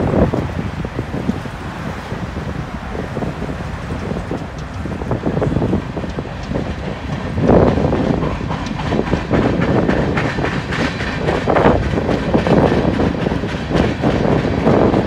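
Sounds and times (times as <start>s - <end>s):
train cars rolling on rails: 0.0s - 15.0s
wheels clacking over rail joints: 0.0s - 15.0s.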